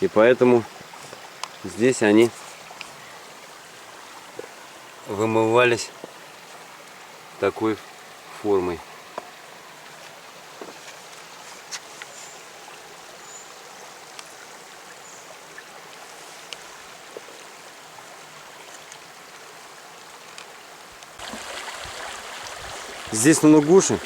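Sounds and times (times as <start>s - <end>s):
stream babbling over stones: 0.0s - 24.0s.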